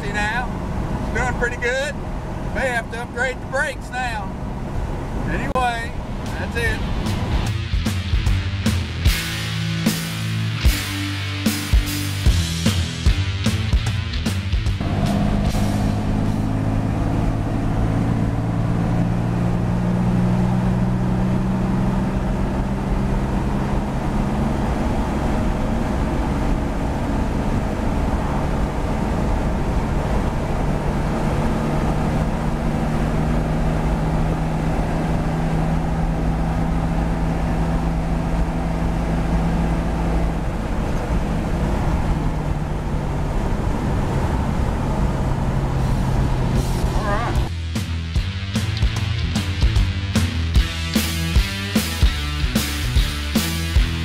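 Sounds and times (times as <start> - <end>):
engine droning: 0.0 - 54.0
road noise: 0.0 - 54.0.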